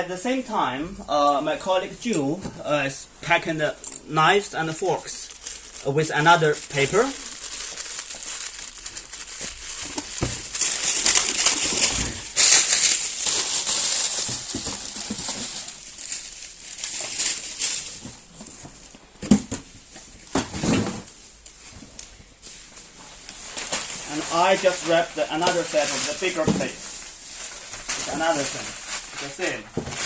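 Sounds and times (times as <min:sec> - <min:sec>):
wrapping paper crinkling: 0:03.2 - 0:19.1, 0:21.0 - 0:30.0.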